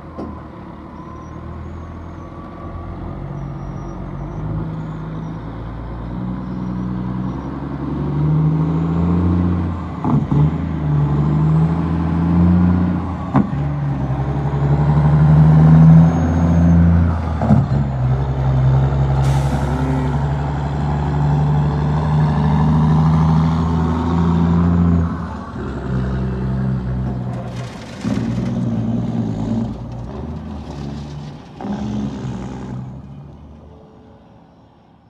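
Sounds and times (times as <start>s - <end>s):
truck diesel engine pulling away: 0.0s - 33.7s.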